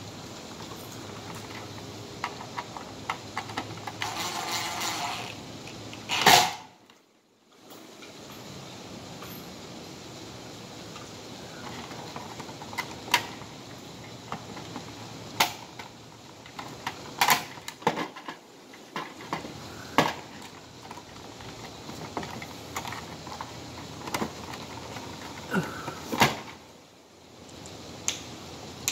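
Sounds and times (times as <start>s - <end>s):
steady hiss: 0.0s - 28.9s.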